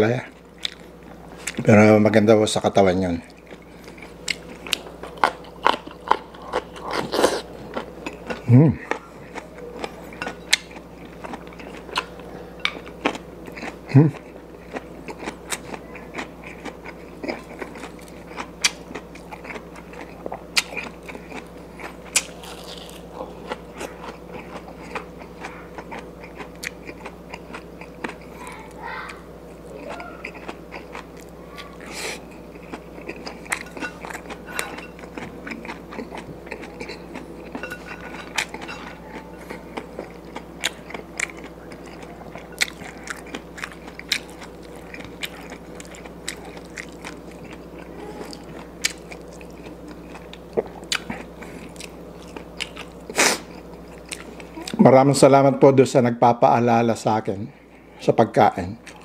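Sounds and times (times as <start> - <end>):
faint steady hum: 0.0 - 59.0
person chewing and crunching: 0.2 - 1.8, 2.7 - 54.9, 58.5 - 59.0.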